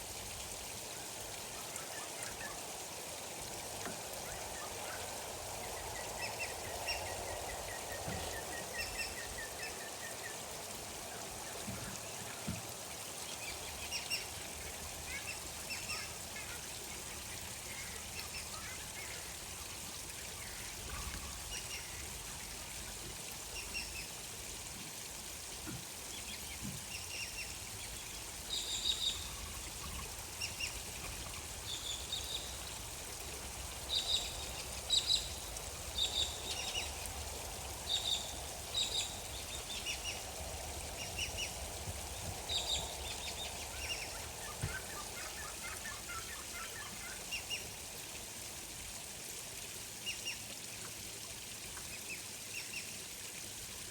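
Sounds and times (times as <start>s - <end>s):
gently flowing water: 0.0s - 53.9s.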